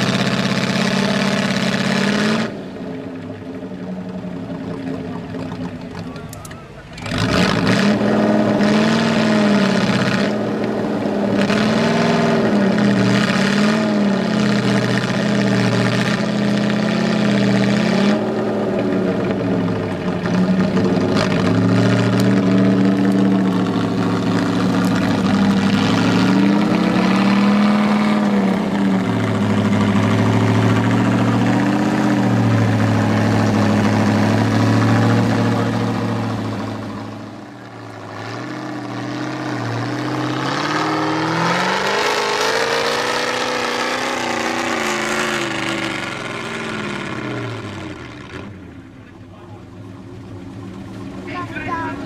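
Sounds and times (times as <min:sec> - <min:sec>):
truck engine revving under load: 0:00.0 - 0:52.0.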